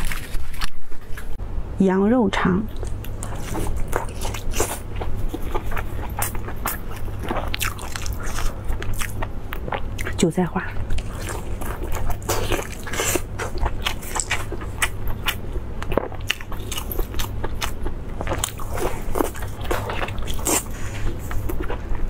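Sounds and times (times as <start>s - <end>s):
chewing with wet mouth smacks: 2.7s - 22.0s.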